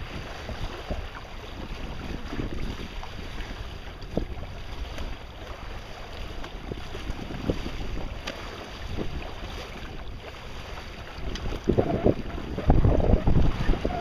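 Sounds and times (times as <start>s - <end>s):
water washing past boat: 0.0s - 14.0s
wind buffeting microphone: 0.0s - 14.0s.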